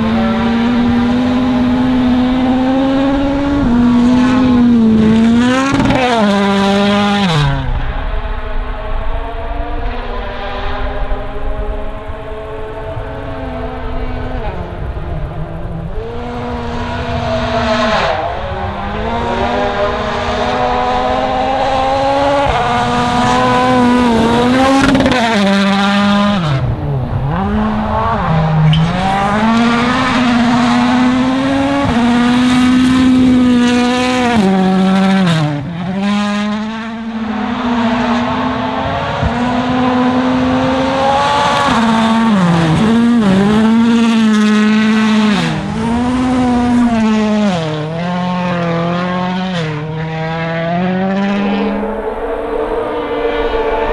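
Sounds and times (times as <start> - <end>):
rally car engine revving: 0.0 - 53.9.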